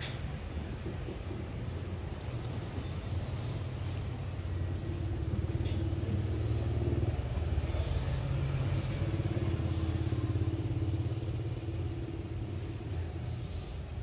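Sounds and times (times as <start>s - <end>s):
small engine idling: 0.8s - 14.0s.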